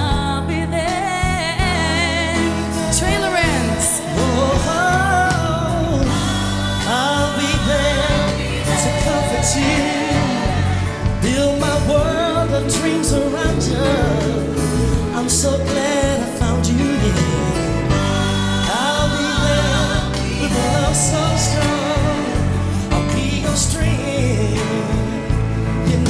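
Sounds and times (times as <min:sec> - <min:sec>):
woman singing soul ballad: 0:00.0 - 0:25.1
band accompaniment: 0:00.0 - 0:26.0.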